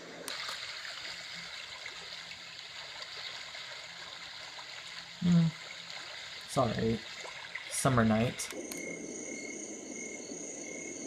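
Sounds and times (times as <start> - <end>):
recorded stream water running: 0.0 - 11.0.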